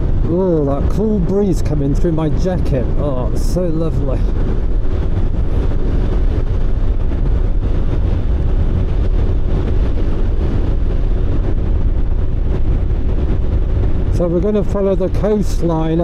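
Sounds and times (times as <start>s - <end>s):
motorcycle running: 0.0s - 16.0s
wind rushing over microphone: 0.0s - 16.0s.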